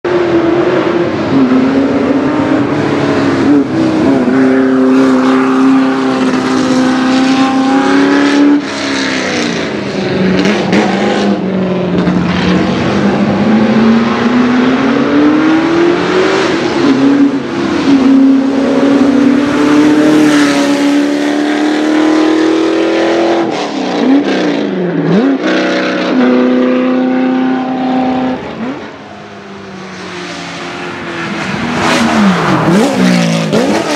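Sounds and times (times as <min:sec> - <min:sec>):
race car engine accelerating hard: 0:00.1 - 0:33.9.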